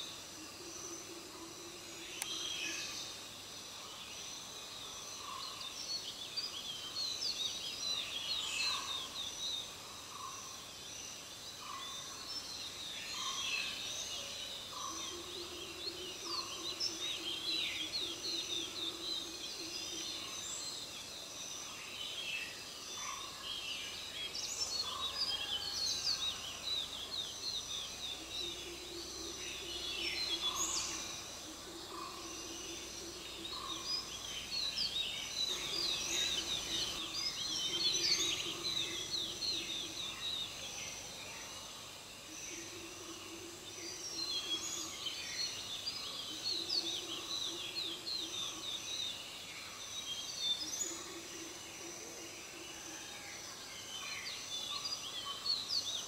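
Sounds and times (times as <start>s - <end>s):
birds chirping and trilling: 4.2s - 56.0s.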